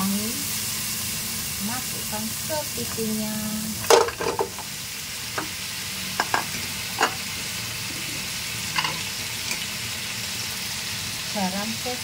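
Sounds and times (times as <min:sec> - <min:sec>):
crabs sizzling in hot oil: 0:00.0 - 0:12.0.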